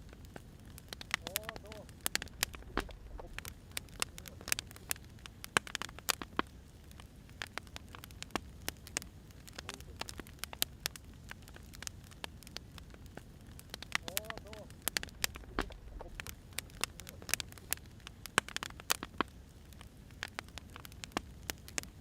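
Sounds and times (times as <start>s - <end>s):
firewood crackling and popping: 0.0s - 22.0s
low steady hiss: 0.0s - 22.0s.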